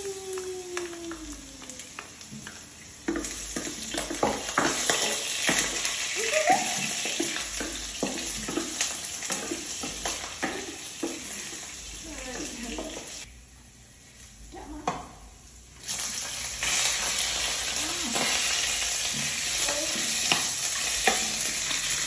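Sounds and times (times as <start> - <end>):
garlic sizzling in hot oil: 0.0 - 13.4, 15.2 - 22.0.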